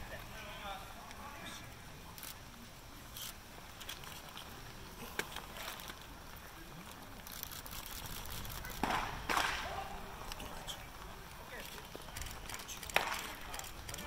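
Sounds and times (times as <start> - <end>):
murmur of spectators' voices: 0.0 - 14.0.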